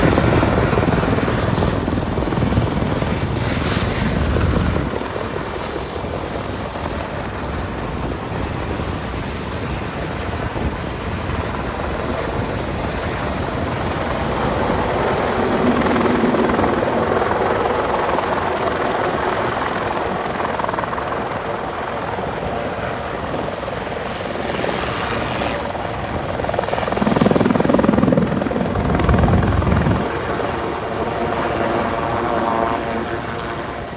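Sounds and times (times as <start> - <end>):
helicopter rotor and engine: 0.0 - 33.9.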